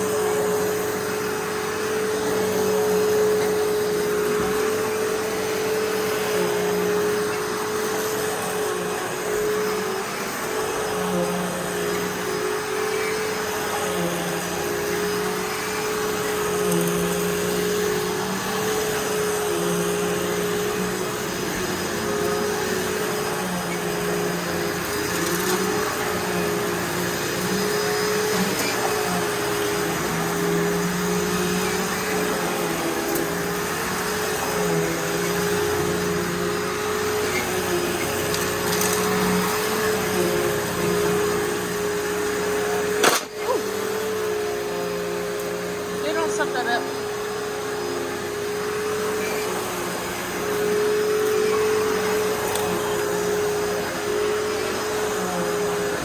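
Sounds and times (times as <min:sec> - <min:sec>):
vacuum cleaner whining: 0:00.0 - 0:56.0.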